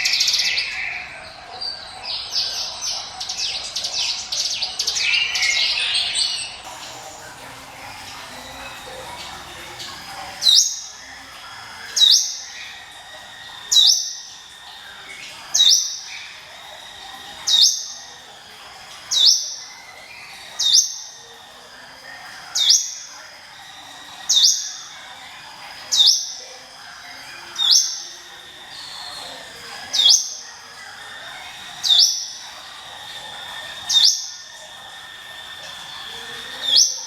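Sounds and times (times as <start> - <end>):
bird calling rising whistle: 5.2 - 37.0.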